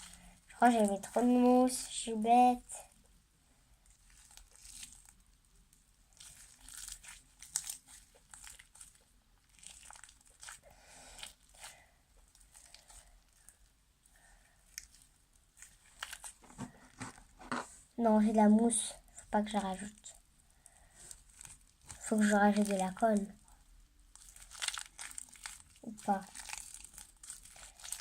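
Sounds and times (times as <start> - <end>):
sticky crackling of slime kneaded: 0.0 - 28.0.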